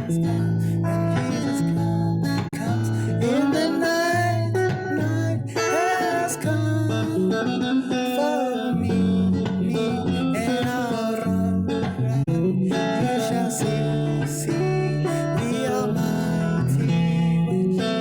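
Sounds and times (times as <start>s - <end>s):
plucked guitar: 0.0s - 18.0s.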